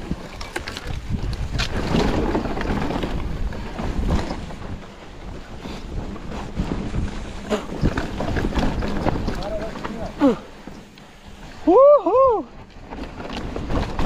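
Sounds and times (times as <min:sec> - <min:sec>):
bike rattling over bumps: 0:00.0 - 0:14.0
tyres rumbling on dirt: 0:00.0 - 0:14.0
wind buffeting microphone: 0:00.0 - 0:14.0.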